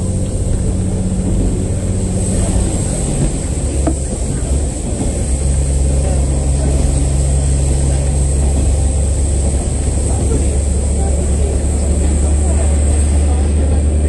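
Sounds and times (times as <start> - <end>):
constant high whine: 0.0 - 14.0
railcar engine drone: 0.0 - 14.0.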